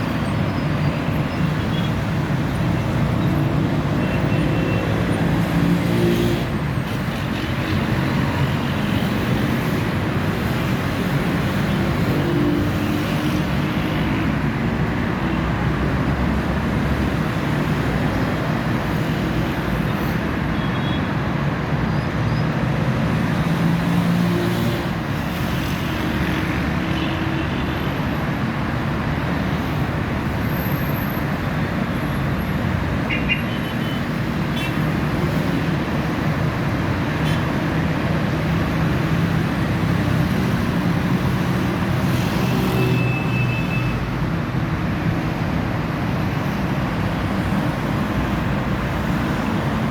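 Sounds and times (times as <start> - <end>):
road traffic rumble: 0.0 - 49.9.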